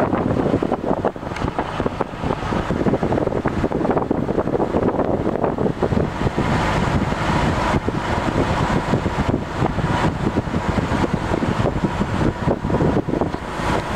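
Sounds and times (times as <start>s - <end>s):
boat engine running: 0.0s - 13.9s.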